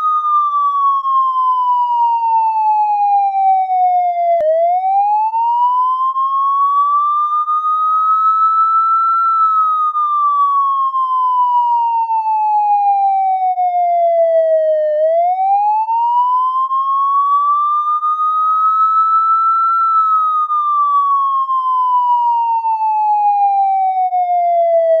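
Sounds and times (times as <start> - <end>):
police siren wail: 0.0 - 25.0.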